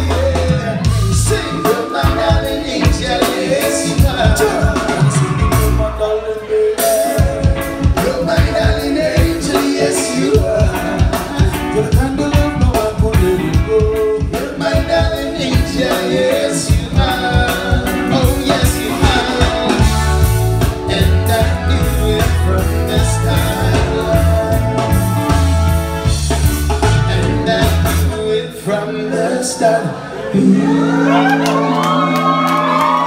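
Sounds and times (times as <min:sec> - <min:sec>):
steady drum beat: 0:00.0 - 0:06.0, 0:06.8 - 0:28.3
deep bass: 0:00.0 - 0:09.7, 0:10.3 - 0:28.6
singers on microphones: 0:00.0 - 0:25.4, 0:26.8 - 0:33.0
electric guitar: 0:00.0 - 0:28.4, 0:30.1 - 0:33.0.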